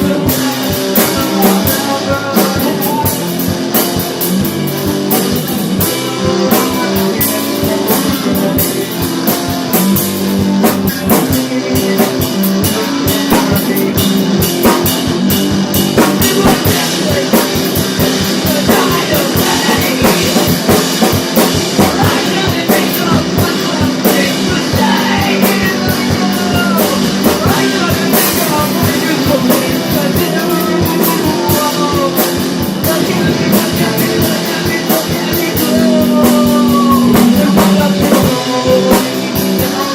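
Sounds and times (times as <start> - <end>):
rock band playing: 0.0 - 39.9
wavering melodic lead line: 0.0 - 39.9.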